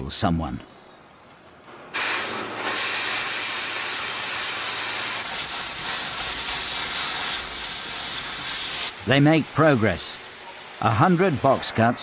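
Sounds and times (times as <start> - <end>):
cutting torch hissing: 1.9 - 12.0.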